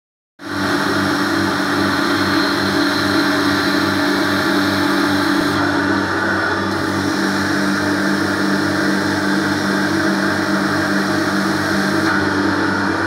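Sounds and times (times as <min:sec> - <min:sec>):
carpet extraction machine humming: 0:00.4 - 0:13.0.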